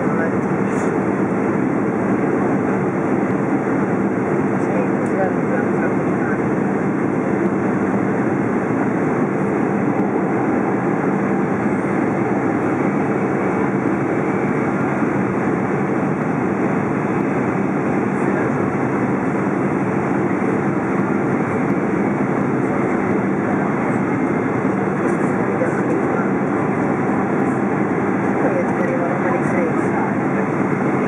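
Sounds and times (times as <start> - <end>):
jet engines droning: 0.0 - 31.0.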